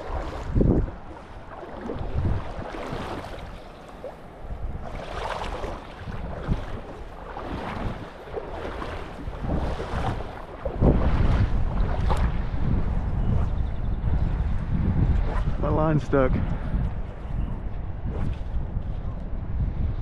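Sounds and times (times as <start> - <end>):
shallow river water: 0.0 - 20.0
wind buffeting microphone: 0.0 - 20.0.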